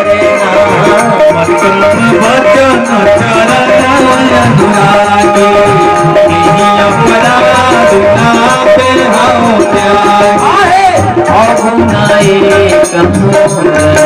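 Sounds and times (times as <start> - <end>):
harmonium notes: 0.0 - 14.0
rattling hand percussion: 0.0 - 14.0
tabla playing rhythm: 0.0 - 14.0.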